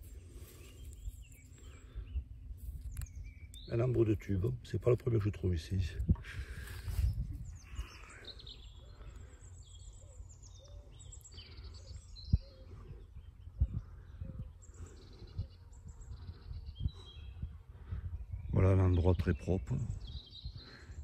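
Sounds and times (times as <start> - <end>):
small birds chirping and singing: 0.0 - 21.0.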